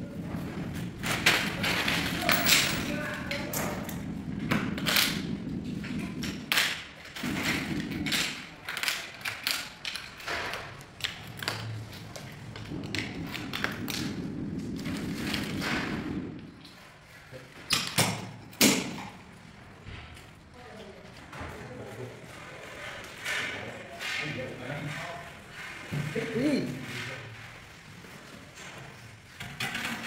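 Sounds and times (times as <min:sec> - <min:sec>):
low rubbing noise: 0:00.0 - 0:17.7, 0:18.3 - 0:29.4.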